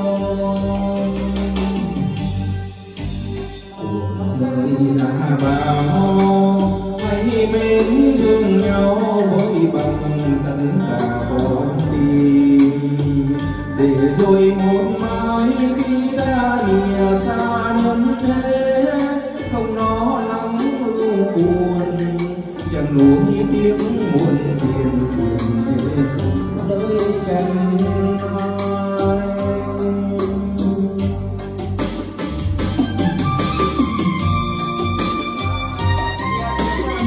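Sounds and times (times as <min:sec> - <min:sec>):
ballad singing over backing music: 0:00.0 - 0:37.0.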